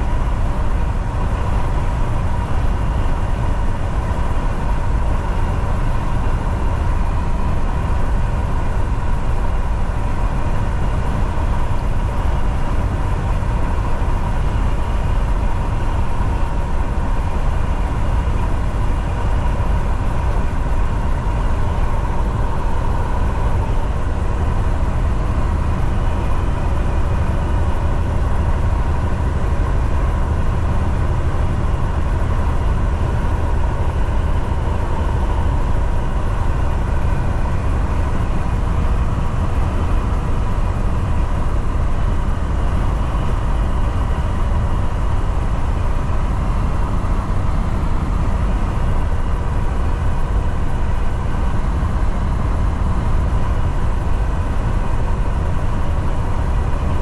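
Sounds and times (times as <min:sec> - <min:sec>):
faint steady whine: 0:00.0 - 0:57.0
truck engine and road rumble: 0:00.0 - 0:57.0.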